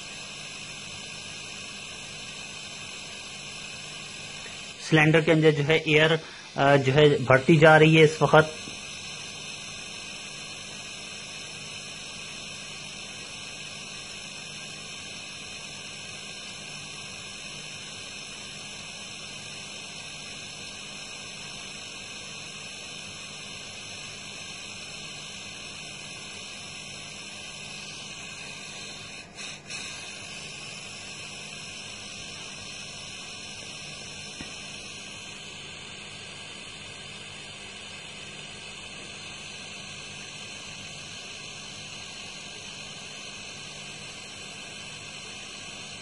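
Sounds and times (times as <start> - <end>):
air hissing: 0.0 - 46.0
compressor humming: 0.0 - 46.0.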